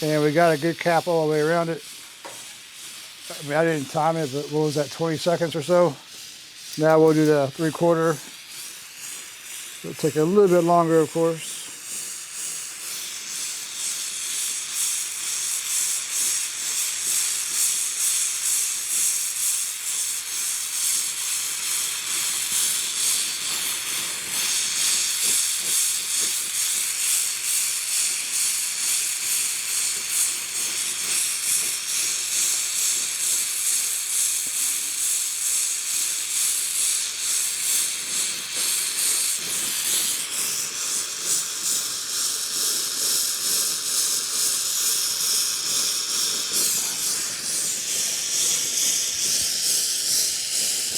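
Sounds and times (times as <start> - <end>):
brazing torch hissing: 0.0 - 50.9.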